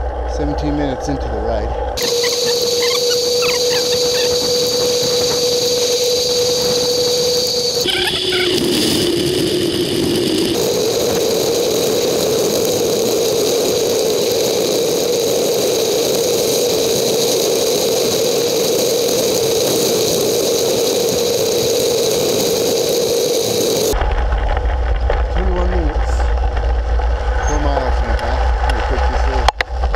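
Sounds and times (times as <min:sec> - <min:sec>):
sped-up wind and tyre whine: 0:00.0 - 0:29.9.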